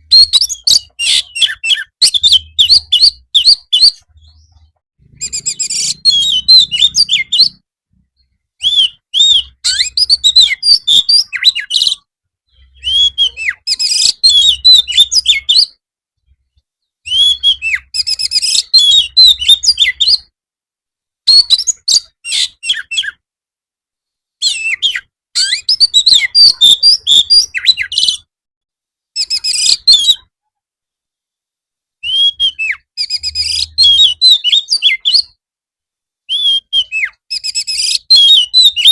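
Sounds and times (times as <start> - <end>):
magpie-robin singing: 0.0 - 7.6, 8.2 - 15.8, 16.5 - 20.3, 21.3 - 23.2, 24.4 - 28.3, 29.2 - 30.3, 32.0 - 35.4, 36.3 - 38.9.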